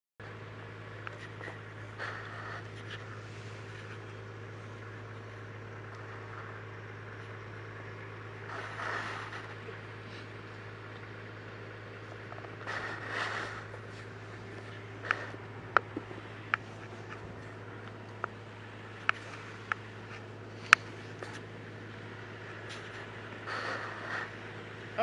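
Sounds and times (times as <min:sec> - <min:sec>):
low hum: 0:00.2 - 0:25.0.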